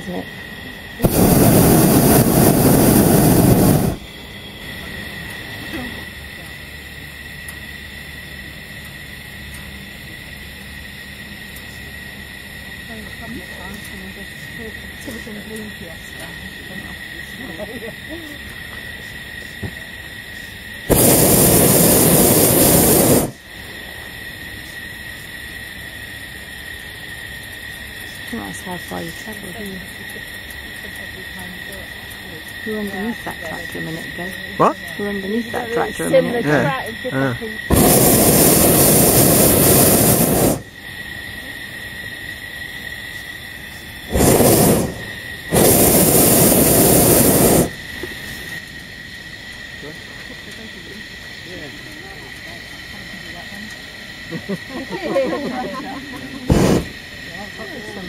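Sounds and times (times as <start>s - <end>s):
propane burner blast: 0.4s - 18.1s, 18.8s - 51.5s, 52.2s - 58.0s.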